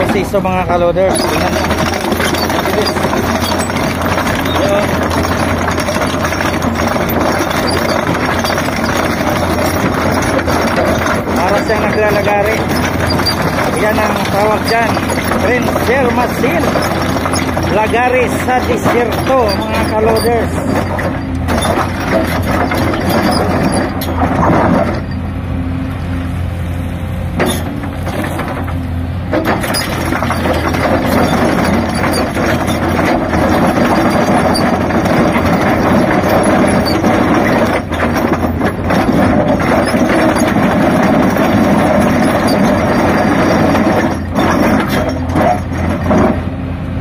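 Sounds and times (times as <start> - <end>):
excavator engine and hydraulics: 0.0 - 47.0
chain grinding against rock: 1.0 - 25.1, 29.5 - 46.4.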